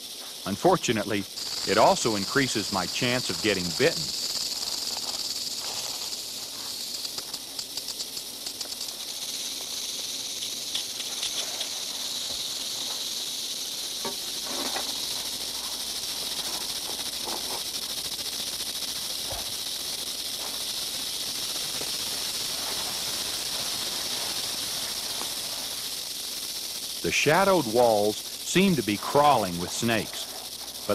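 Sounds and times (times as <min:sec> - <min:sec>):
rattlesnake rattling buzz: 0:00.0 - 0:30.9.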